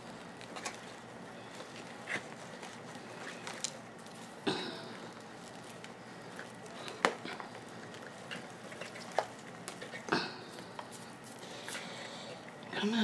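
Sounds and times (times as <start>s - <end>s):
potting soil crumbling and rustling: 0.0s - 12.0s.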